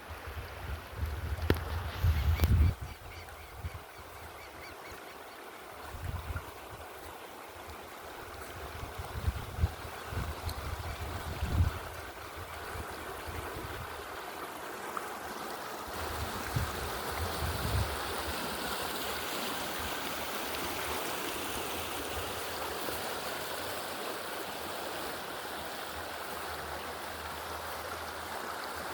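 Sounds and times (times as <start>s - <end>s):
stream rushing: 0.0s - 28.9s.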